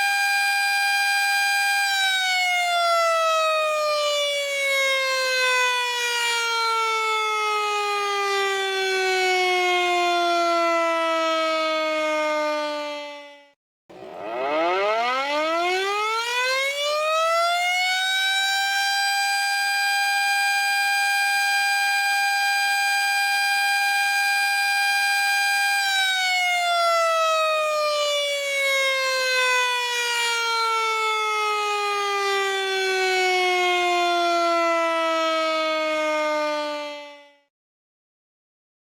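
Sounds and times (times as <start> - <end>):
air-raid siren wailing: 0.0 - 37.5.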